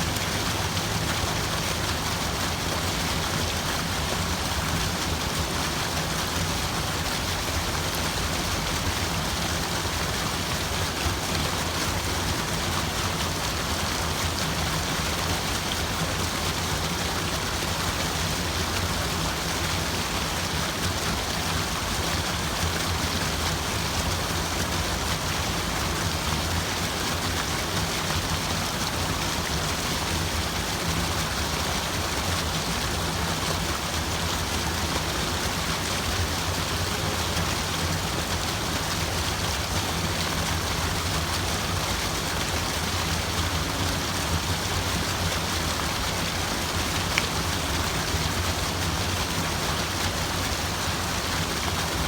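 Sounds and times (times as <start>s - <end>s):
water rushing and splashing: 0.0s - 52.0s.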